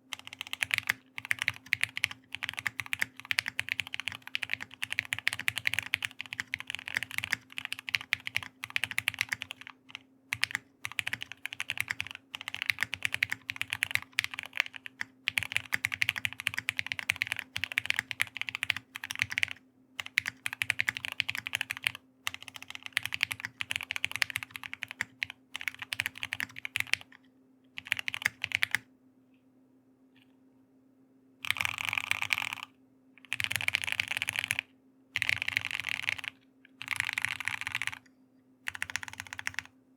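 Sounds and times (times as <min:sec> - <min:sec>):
mechanical keyboard typing: 0:00.1 - 0:27.2, 0:27.8 - 0:28.8, 0:31.4 - 0:38.1, 0:38.7 - 0:39.7.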